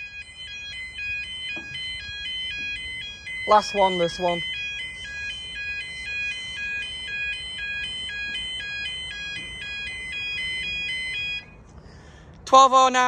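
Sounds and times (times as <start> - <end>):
level crossing alarm warbling: 0.0 - 11.6.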